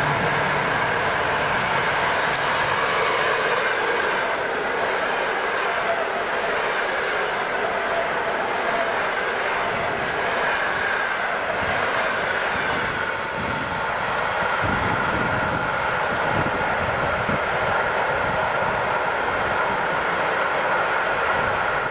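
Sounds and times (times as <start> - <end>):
train wheels on rails: 0.0 - 21.9.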